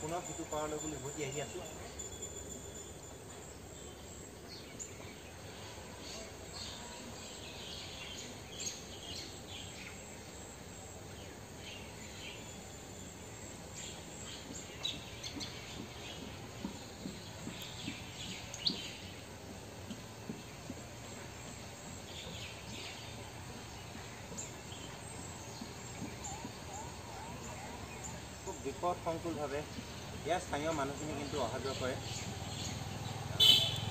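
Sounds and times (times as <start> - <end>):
small birds chirping: 0.0 - 33.9
steady background hiss: 0.0 - 33.9.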